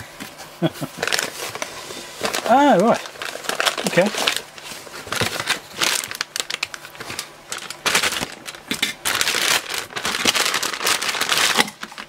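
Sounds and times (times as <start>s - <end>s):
plastic bags crinkling: 0.9s - 12.0s.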